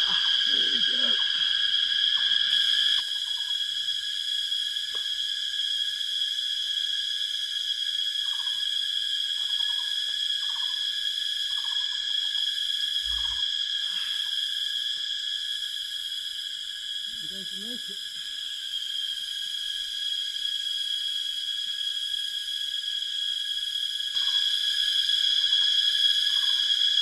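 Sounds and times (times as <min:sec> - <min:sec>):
forest insects droning: 0:00.0 - 0:27.0.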